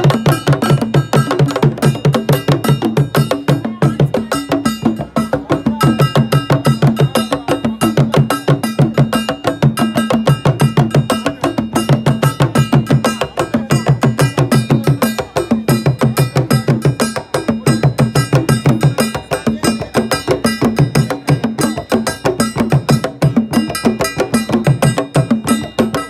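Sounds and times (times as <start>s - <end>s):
drum ensemble playing: 0.0s - 26.0s.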